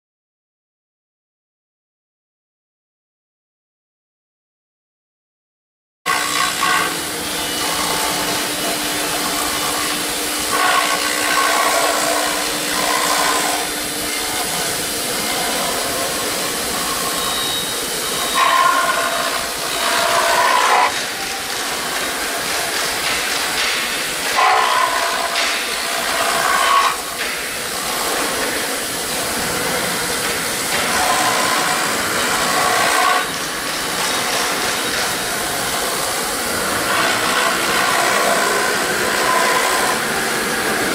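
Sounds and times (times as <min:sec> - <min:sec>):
foam router milling foam: 0:06.1 - 0:40.9.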